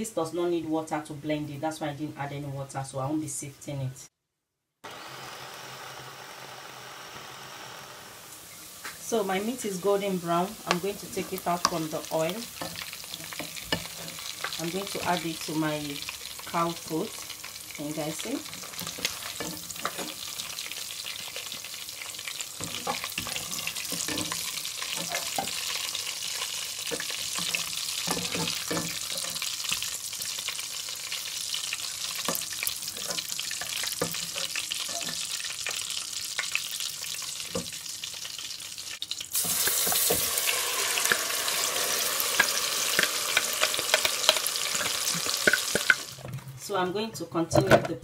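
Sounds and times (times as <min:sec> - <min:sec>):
pepper sizzling in oil: 0:04.9 - 0:46.3
meat sizzling in hot oil: 0:04.9 - 0:46.4.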